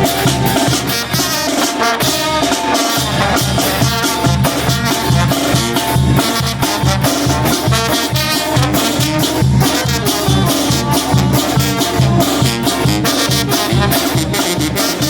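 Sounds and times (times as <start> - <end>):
bass beat: 0.0 - 15.0
brass band playing dance tune: 0.0 - 15.0.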